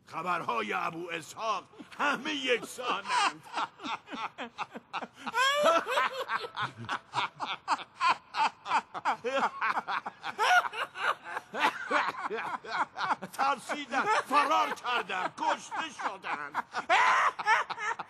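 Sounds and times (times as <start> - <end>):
men laughing: 1.3 - 18.0.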